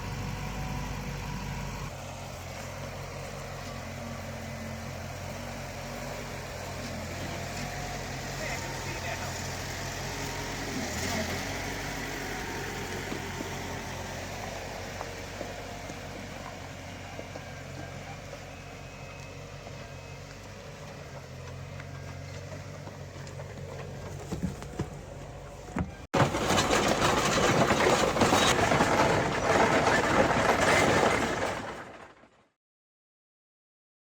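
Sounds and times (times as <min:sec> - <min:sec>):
tractor engine humming: 0:00.0 - 0:30.6.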